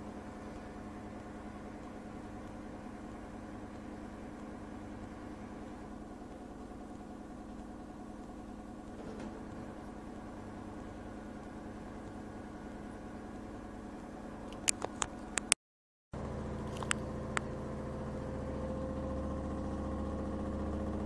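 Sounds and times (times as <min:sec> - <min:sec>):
washing machine spinning: 0:00.0 - 0:15.5, 0:16.2 - 0:21.0.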